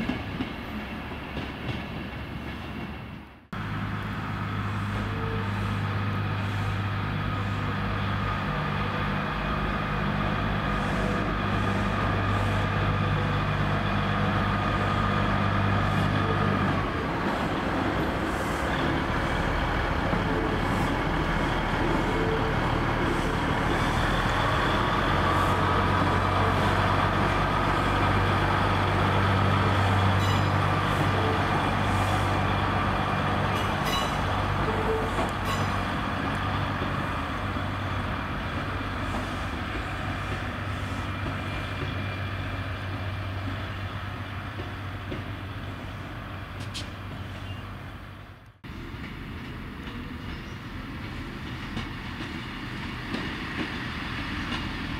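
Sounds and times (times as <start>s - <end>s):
train diesel engine drone: 0.0s - 54.9s.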